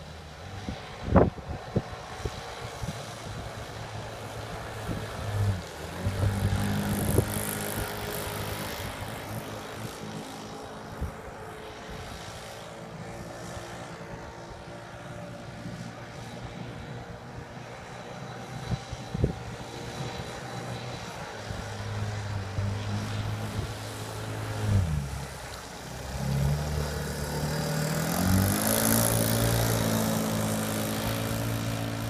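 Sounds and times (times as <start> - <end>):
rc boat engine droning: 0.0 - 32.0.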